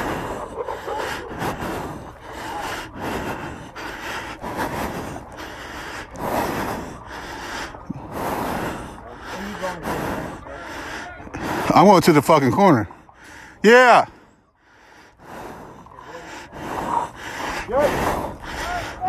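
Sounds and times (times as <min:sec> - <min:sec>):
heavy ragged breathing: 0:00.0 - 0:19.0.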